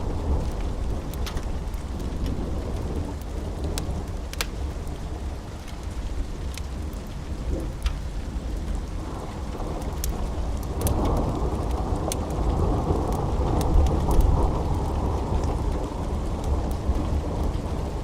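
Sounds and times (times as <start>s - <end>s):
rolling thunder rumble: 0.0s - 18.0s
sharp crackles: 0.0s - 18.0s
steady rain: 0.0s - 18.0s.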